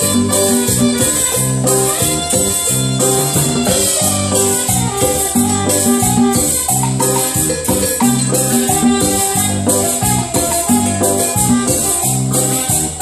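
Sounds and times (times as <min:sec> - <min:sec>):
congas: 0:00.0 - 0:13.0
keyboard: 0:00.0 - 0:13.0
saxophones: 0:00.0 - 0:13.0
shaker rhythm: 0:00.0 - 0:13.0.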